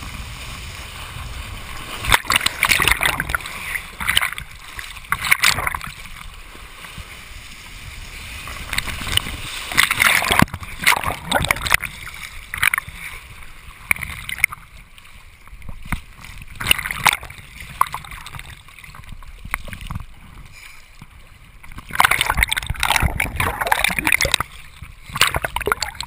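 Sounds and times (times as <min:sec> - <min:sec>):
water splashing and spray: 0:00.0 - 0:26.0.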